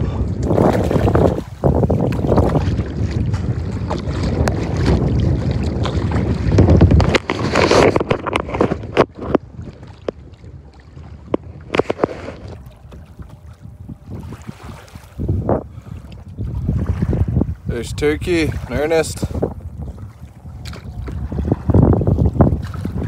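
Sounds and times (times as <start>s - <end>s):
water slapping and splashing: 0.0s - 23.0s
wind buffeting microphone: 0.0s - 23.0s.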